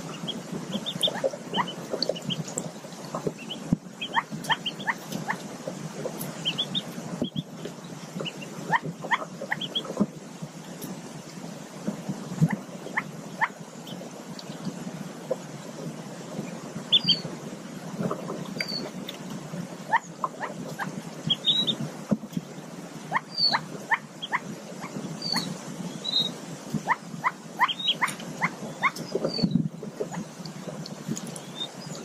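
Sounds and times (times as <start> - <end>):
ducklings peeping: 0.0 - 10.2, 12.4 - 15.4, 16.4 - 17.4, 18.0 - 19.3, 19.9 - 22.2, 23.0 - 32.0.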